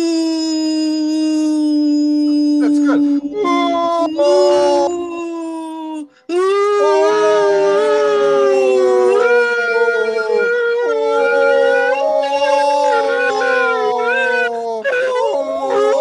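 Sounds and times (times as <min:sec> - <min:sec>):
man and woman wailing: 0:00.4 - 0:16.0.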